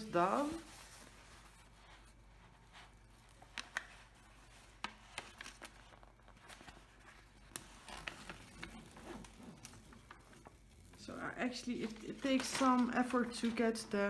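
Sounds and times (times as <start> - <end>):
stiff canvas crinkling: 0.2 - 14.0.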